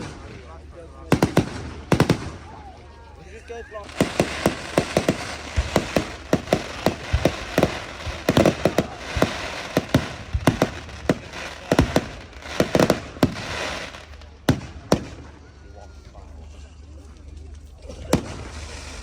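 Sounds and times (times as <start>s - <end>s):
fireworks bangs: 0.0s - 2.8s, 3.5s - 15.6s, 17.8s - 19.0s
fireworks crackling: 0.0s - 19.0s.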